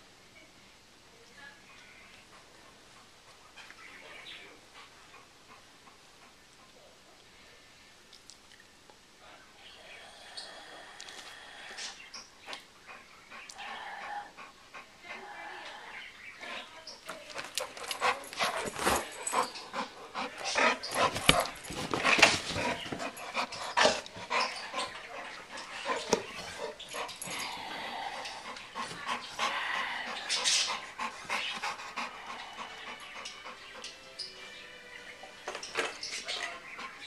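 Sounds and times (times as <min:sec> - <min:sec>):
dog panting: 0:02.0 - 0:07.3, 0:11.1 - 0:34.6, 0:36.2 - 0:37.0.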